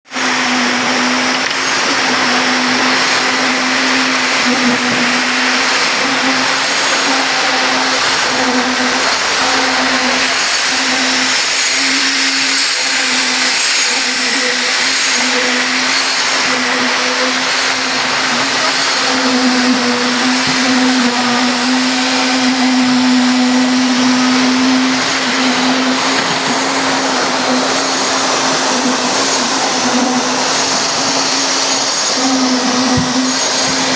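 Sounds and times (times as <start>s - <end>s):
construction machine whirring: 0.0s - 33.9s.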